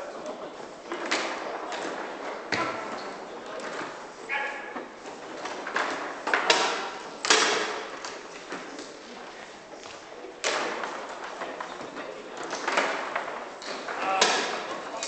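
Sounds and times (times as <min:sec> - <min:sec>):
knocks echoing in a hall: 0:00.0 - 0:15.0.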